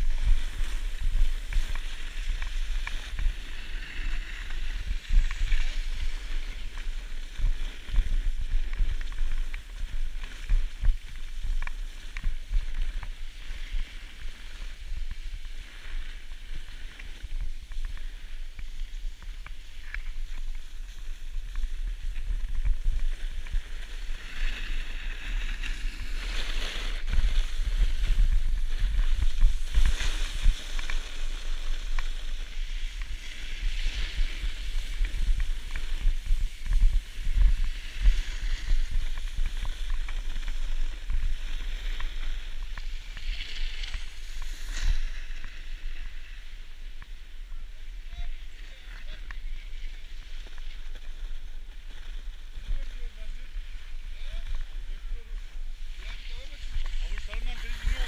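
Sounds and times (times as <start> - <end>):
snowboard scraping over snow: 0.0 - 58.0.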